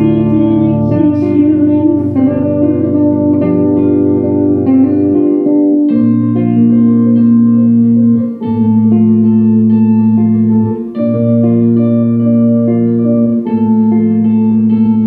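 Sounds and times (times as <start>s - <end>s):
held chords over bass: 0.0s - 15.0s.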